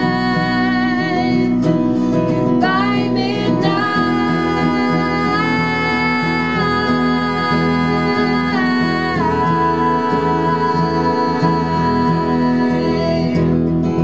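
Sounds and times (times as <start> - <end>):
guitars: 0.0 - 14.0
voices singing in harmony: 0.0 - 14.0.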